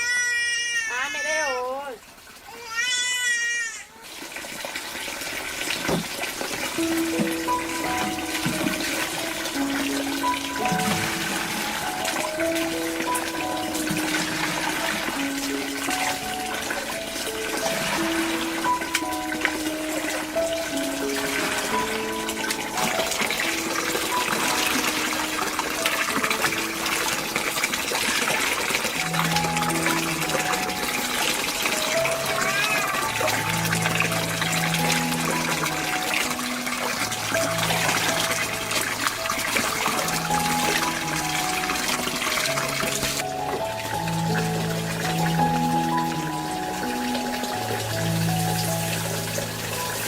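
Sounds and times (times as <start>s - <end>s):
water running: 0.0s - 50.0s
background music with held notes: 5.8s - 50.0s.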